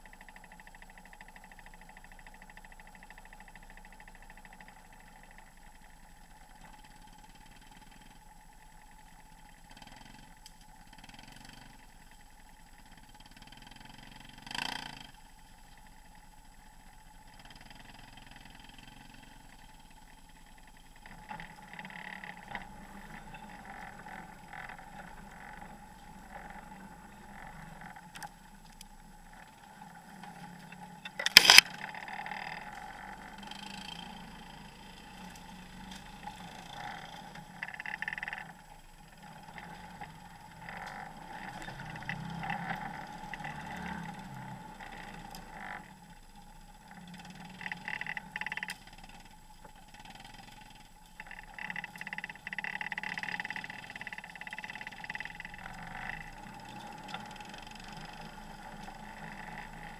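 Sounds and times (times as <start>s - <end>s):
off-road vehicle engine hum: 0.0s - 59.9s
vehicle rattles and bumps: 0.0s - 59.9s.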